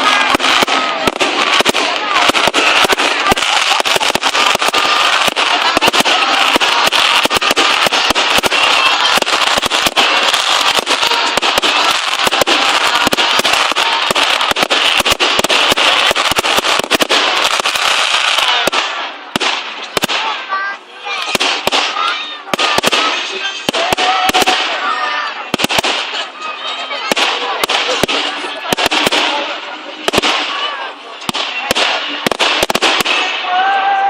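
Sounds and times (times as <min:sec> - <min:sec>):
fireworks crackling and banging: 0:00.0 - 0:34.0.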